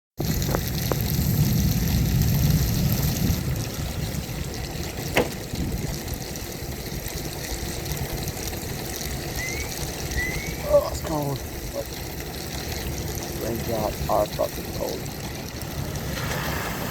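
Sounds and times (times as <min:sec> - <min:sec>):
low rumble: 0:00.2 - 0:16.9
rain: 0:00.2 - 0:16.9
wheels rolling on wet ground: 0:00.2 - 0:16.9.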